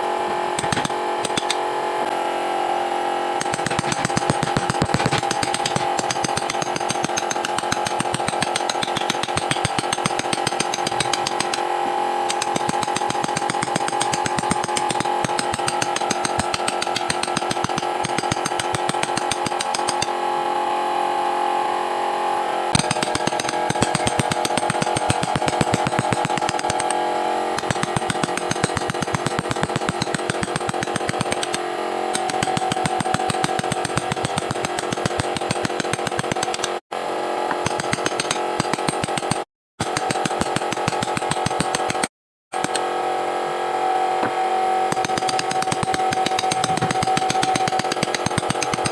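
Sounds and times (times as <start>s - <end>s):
power tool working wood: 0.0s - 42.0s, 42.6s - 48.9s.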